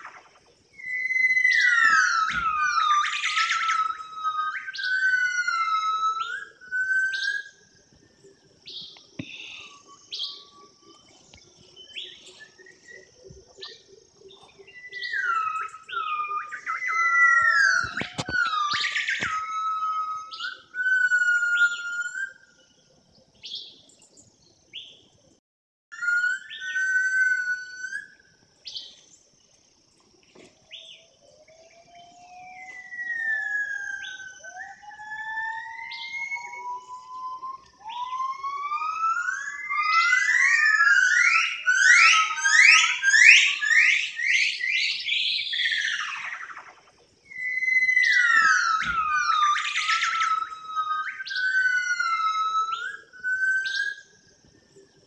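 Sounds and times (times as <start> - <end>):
high whistle-like gliding tones: 0.0 - 23.0, 25.9 - 28.9, 30.7 - 55.0.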